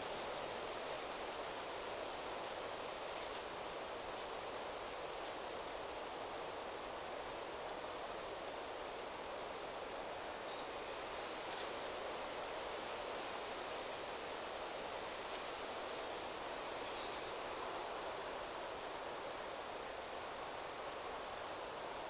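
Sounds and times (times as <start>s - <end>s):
wind rustling through trees: 0.0s - 22.0s.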